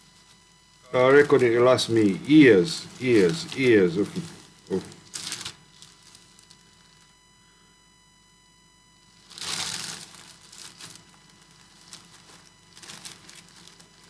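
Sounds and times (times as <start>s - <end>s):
plastic bag crinkling: 0.0s - 7.1s, 9.2s - 14.0s.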